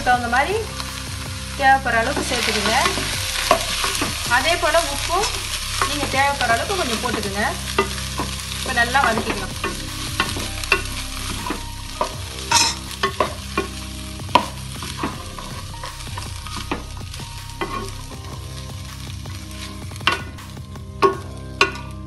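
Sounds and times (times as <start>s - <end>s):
soft sizzle: 0.0s - 22.0s
wooden spatula scraping a pan: 0.0s - 22.0s.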